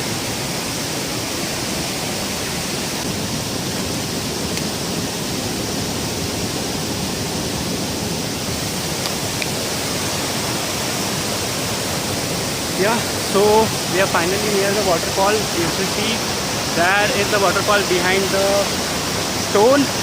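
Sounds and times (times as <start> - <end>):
stream water rushing: 0.0 - 20.0
waterfall: 0.0 - 20.0.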